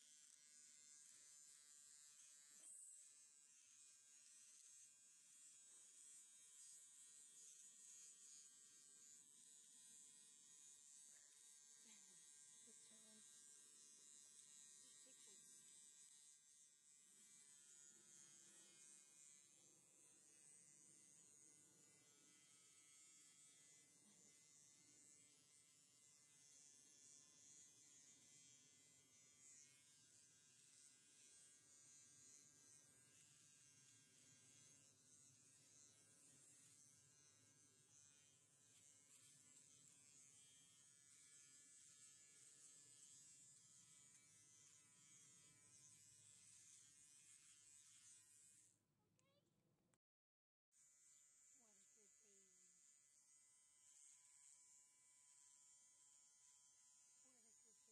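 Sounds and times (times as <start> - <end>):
electric clipper buzzing: 0.0 - 48.8, 50.8 - 57.9.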